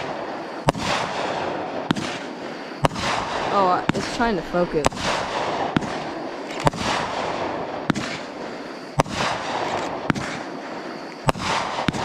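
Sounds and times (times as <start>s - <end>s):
fireworks bangs with hiss: 0.0s - 12.0s.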